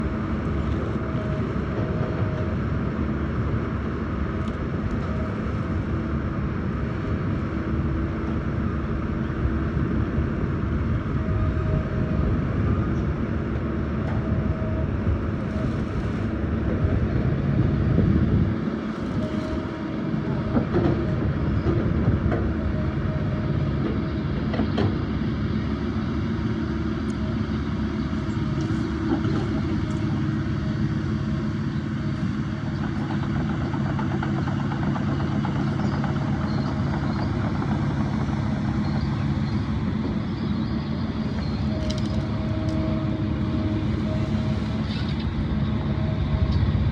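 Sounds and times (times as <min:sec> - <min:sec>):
heavy machinery diesel engines: 0:00.0 - 0:46.9.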